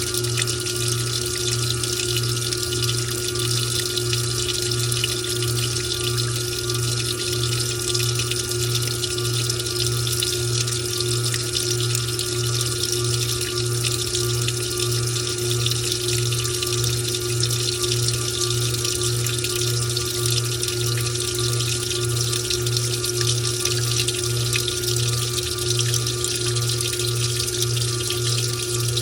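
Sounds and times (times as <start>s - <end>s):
pulsing motor hum: 0.0s - 29.0s
water splashing in drum: 0.0s - 29.0s.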